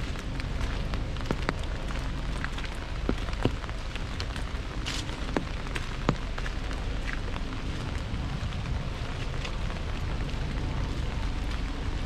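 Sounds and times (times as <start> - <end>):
rain drumming on umbrella: 0.0 - 12.0.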